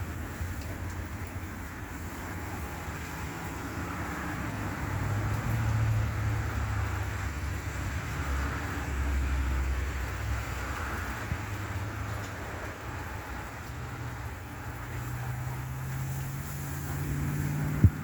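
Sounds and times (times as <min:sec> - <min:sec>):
rain and tyres on wet road: 0:00.0 - 0:18.0
vehicle engines rumbling: 0:00.0 - 0:18.0.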